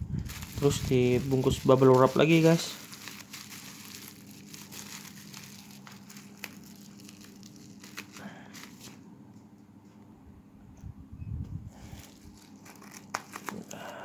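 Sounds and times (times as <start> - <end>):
bubble wrap crinkling: 0.0 - 9.1, 11.8 - 14.0.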